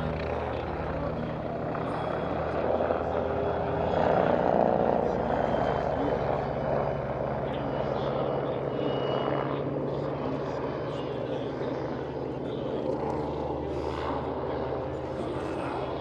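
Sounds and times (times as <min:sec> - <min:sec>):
aircraft engine drone: 0:00.0 - 0:16.0.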